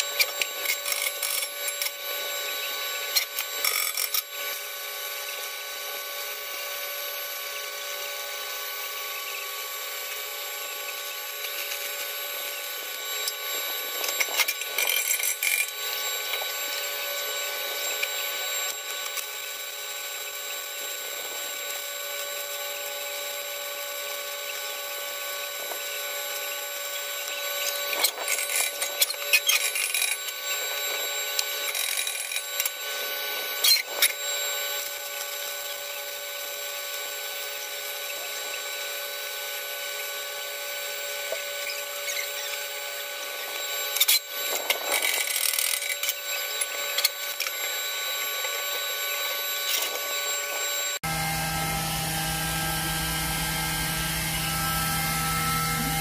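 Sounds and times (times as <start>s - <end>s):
machine whine: 0.0s - 56.0s.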